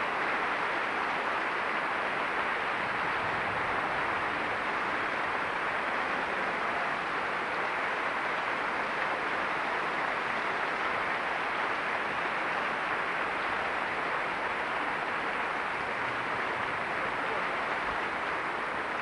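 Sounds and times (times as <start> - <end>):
audience applause: 0.0 - 19.0.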